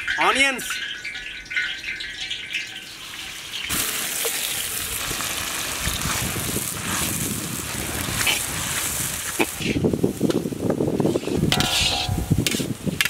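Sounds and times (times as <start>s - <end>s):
onions sizzling in hot oil: 1.4s - 13.0s.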